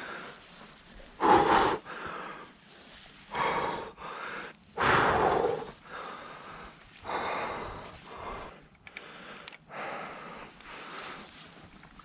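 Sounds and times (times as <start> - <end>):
man breathing hard: 0.0 - 0.5, 1.1 - 2.6, 3.3 - 11.4.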